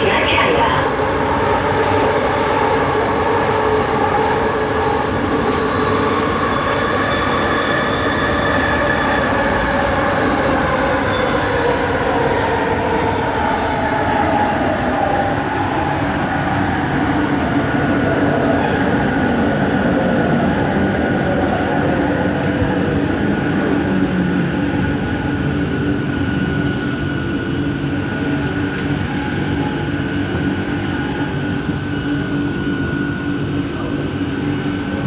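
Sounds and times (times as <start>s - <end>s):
train ride rumble: 0.0s - 35.0s.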